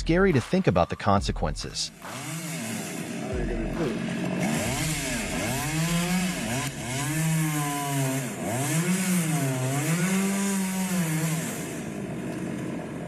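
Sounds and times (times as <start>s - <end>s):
chainsaw engine revving: 1.9s - 13.0s.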